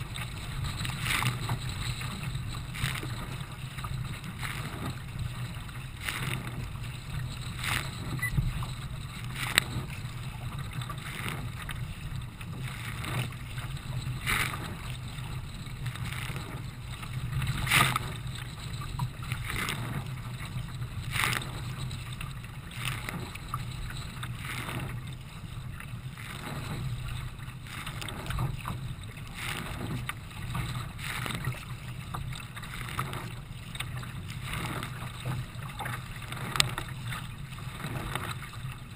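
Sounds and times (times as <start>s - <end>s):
paddle splashes: 0.0s - 38.9s
water rushing past a hull: 0.0s - 38.9s.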